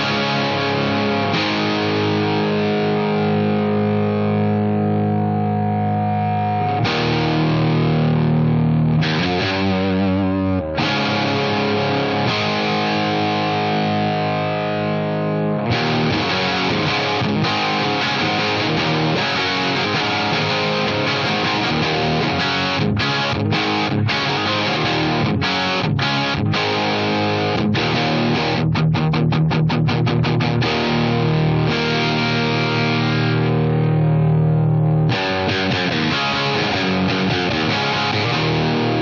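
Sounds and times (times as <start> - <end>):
overdriven electric guitar: 0.0 - 39.0.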